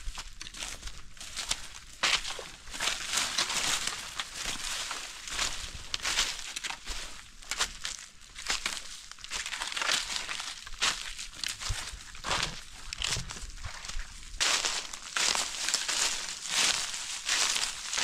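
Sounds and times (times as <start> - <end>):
footsteps crunching dry leaves: 0.0 - 18.0.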